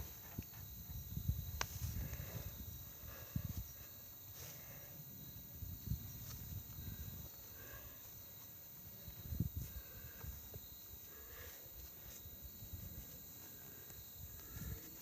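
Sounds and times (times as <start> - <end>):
steady high-pitched buzz: 0.0 - 15.0.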